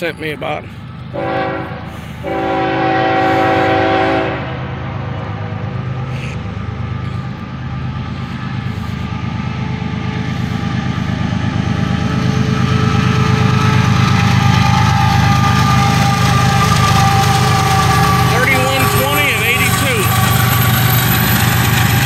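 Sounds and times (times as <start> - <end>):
diesel locomotives rumbling: 0.0 - 22.0
steady whine: 4.3 - 22.0.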